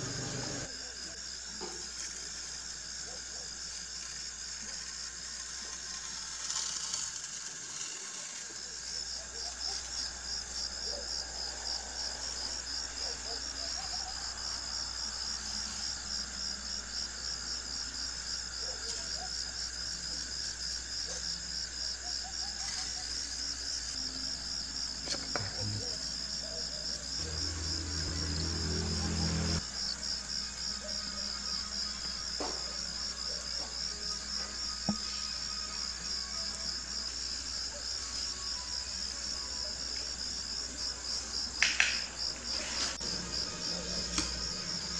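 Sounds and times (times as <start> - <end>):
insect chirping: 0.0 - 44.9.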